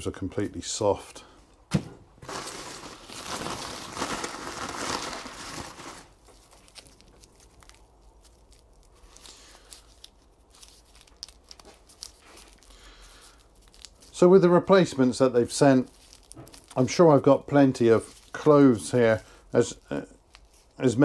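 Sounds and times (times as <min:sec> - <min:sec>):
garlic skins crackling: 0:02.2 - 0:21.0.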